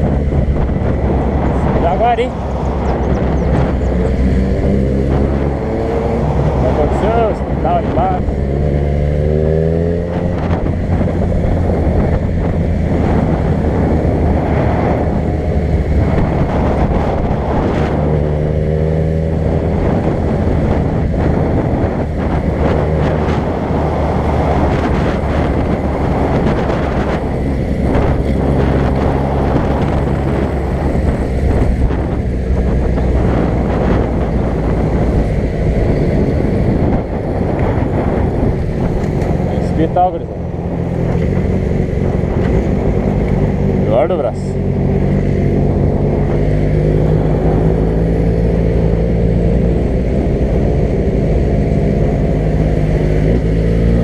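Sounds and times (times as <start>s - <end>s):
road noise: 0.0s - 54.0s
vehicle engine accelerating: 0.0s - 54.0s
wind buffeting microphone: 0.0s - 54.0s.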